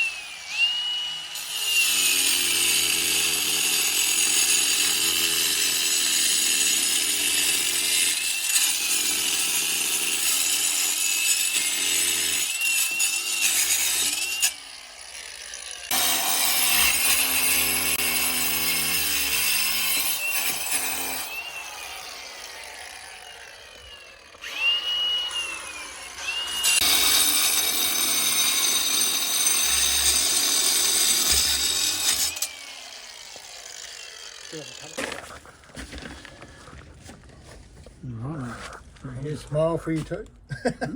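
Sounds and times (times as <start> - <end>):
power saw cutting: 0.0 - 35.9.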